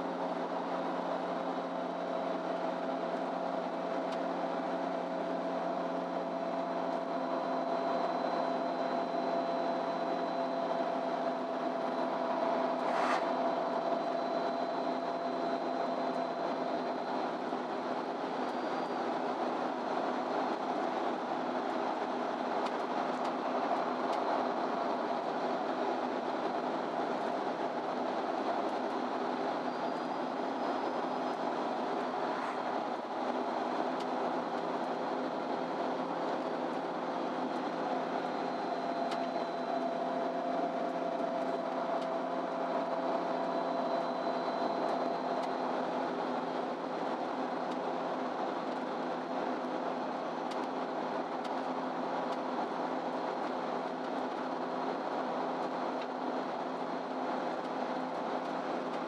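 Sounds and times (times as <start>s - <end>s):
bus engine hum: 0.0s - 59.0s
road noise: 0.0s - 59.0s
whine: 0.0s - 59.0s.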